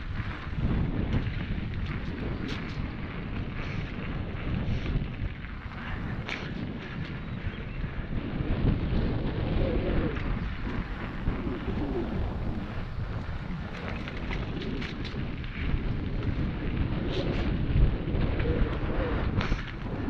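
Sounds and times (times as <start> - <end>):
bike rattling over bumps: 0.0 - 20.0
bike tyre noise on dirt: 0.0 - 20.0
wind rumbling on microphone: 0.0 - 20.0.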